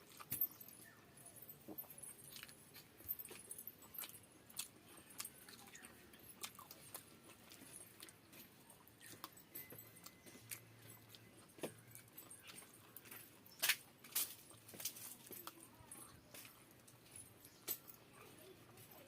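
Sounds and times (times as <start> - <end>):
chewing and lip-smacking: 1.8 - 17.1.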